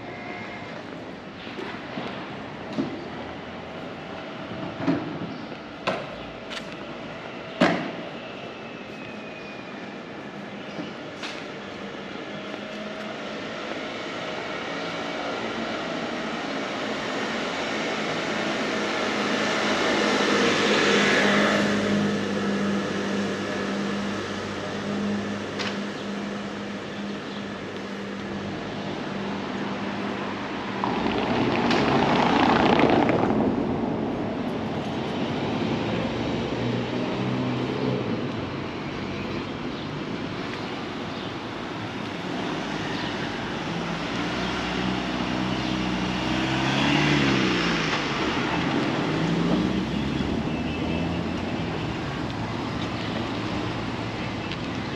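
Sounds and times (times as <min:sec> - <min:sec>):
cars passing on cobblestones: 0:00.0 - 0:54.9.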